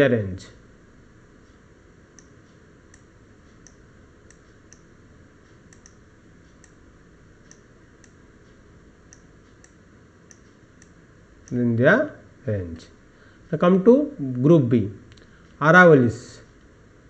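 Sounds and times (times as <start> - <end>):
room hiss: 0.0 - 17.0.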